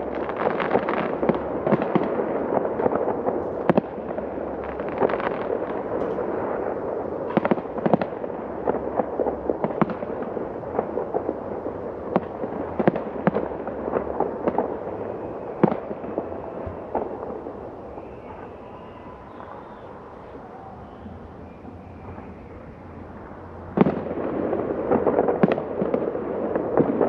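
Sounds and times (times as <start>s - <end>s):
fireworks bursting with bangs: 0.0s - 27.0s
fireworks crackle: 0.0s - 27.0s.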